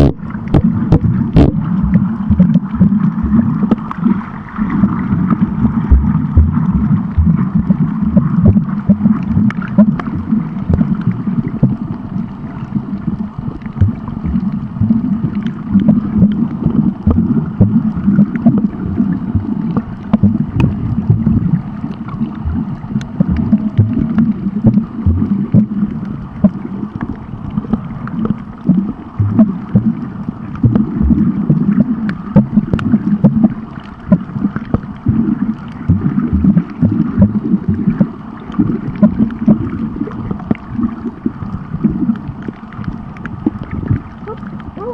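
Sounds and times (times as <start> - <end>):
underwater rumble of moving water: 0.0 - 44.9.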